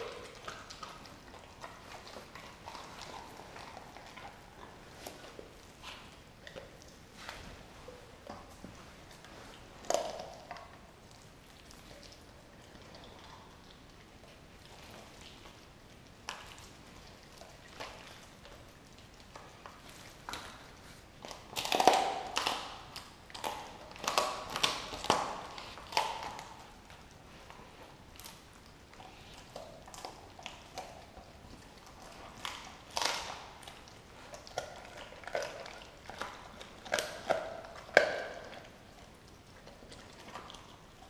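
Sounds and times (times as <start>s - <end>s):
dog crunching and tearing meat: 0.0s - 41.0s.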